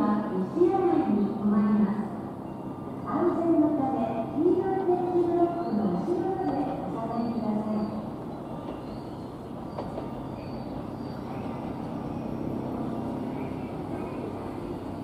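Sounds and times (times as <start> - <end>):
train rumbling over rails: 0.0 - 15.0.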